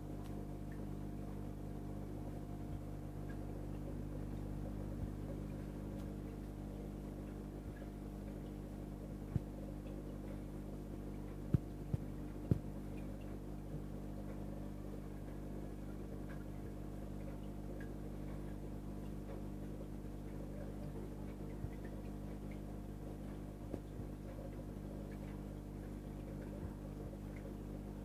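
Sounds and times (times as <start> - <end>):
aquarium pumps humming: 0.0 - 28.0.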